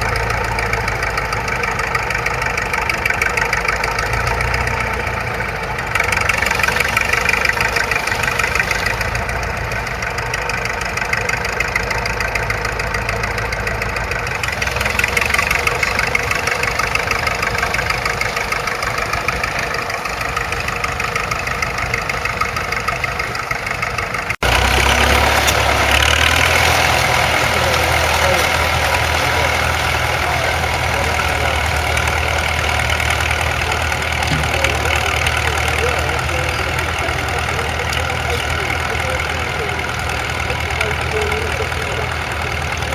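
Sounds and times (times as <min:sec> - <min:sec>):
loud deep engine: 0:00.0 - 0:42.9
tractor engine running: 0:00.0 - 0:42.9.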